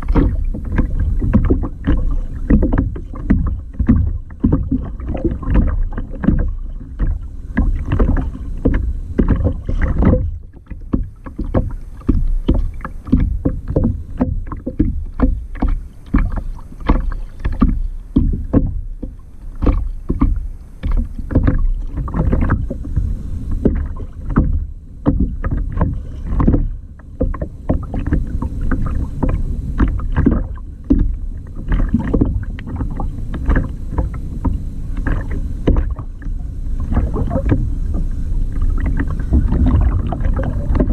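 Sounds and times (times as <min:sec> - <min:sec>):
water splashing against kayak: 0:00.0 - 0:40.9.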